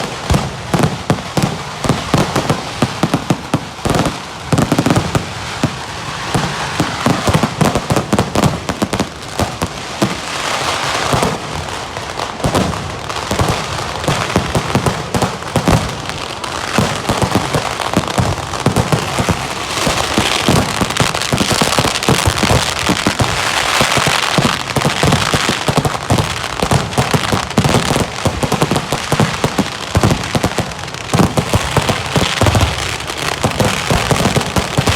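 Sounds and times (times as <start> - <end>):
continuous crackle: 0.0 - 34.9
rapid firecracker bangs: 0.0 - 34.9.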